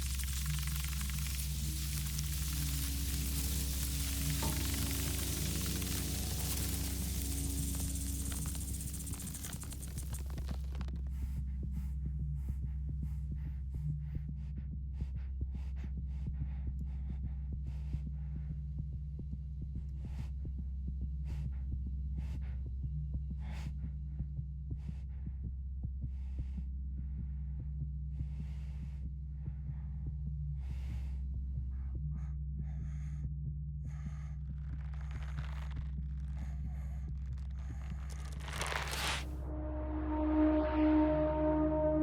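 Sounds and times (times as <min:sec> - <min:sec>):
deep low hum: 0:00.0 - 0:42.0.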